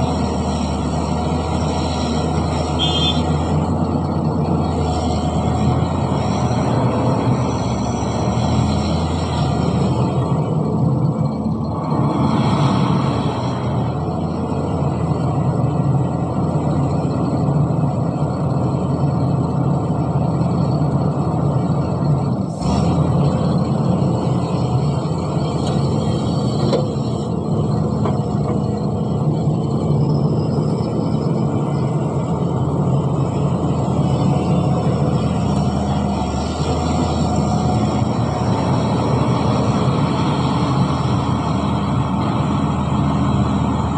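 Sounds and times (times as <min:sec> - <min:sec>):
heavy diesel machinery engine: 0:00.0 - 0:43.9.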